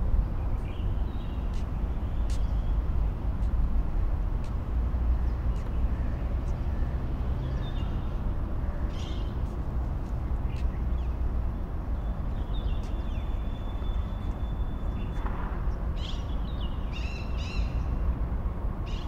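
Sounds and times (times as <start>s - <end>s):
low outdoor rumble: 0.0s - 16.8s.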